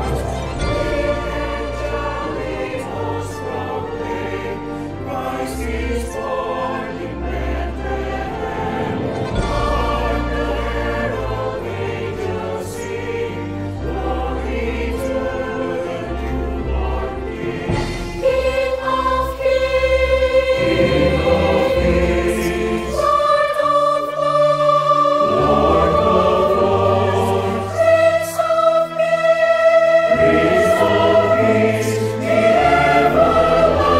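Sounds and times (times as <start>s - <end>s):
instrumental accompaniment: 0.0s - 33.9s
mixed choir singing carols: 0.0s - 33.9s.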